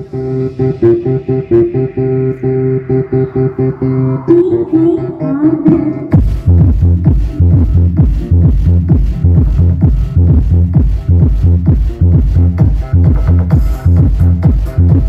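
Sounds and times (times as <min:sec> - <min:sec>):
heavy deep bass beat: 0:00.0 - 0:15.0.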